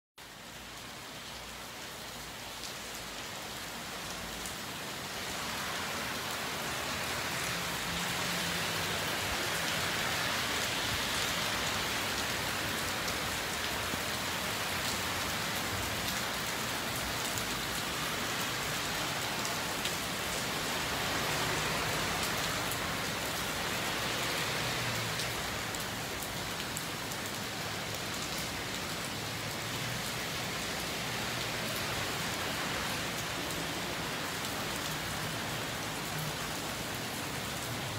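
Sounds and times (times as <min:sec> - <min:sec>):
cars driving on wet road: 0:00.2 - 0:37.9
rain falling on street: 0:00.2 - 0:37.9.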